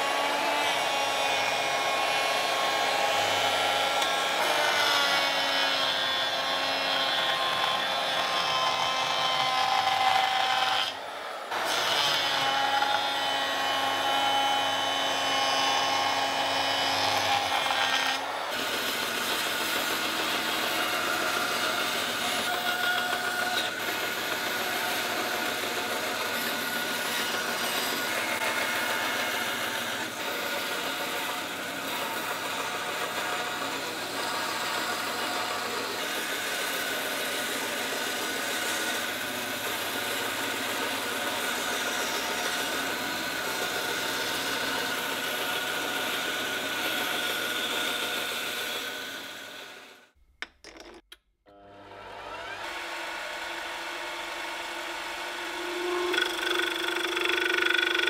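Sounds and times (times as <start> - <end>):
lathe turning wood: 0.0 - 49.9, 52.2 - 58.0
electric saw cutting wood: 0.0 - 50.1, 51.5 - 58.0.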